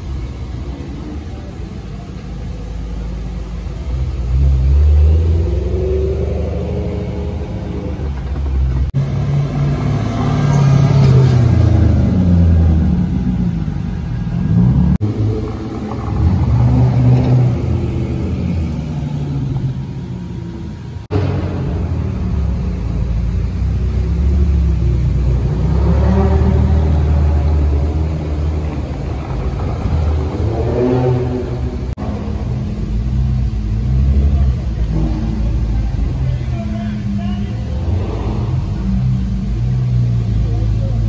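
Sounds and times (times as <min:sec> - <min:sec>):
cars revving past: 0:03.8 - 0:36.2, 0:37.4 - 0:41.0.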